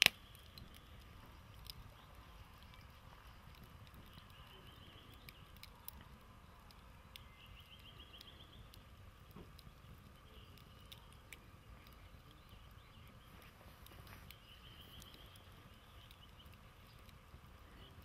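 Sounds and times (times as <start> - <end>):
campfire coals crackling: 0.0 - 18.0.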